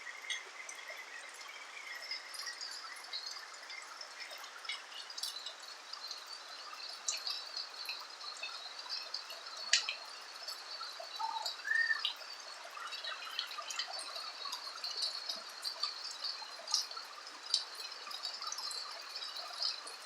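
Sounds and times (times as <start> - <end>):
rain pattering on roof: 0.0 - 20.0.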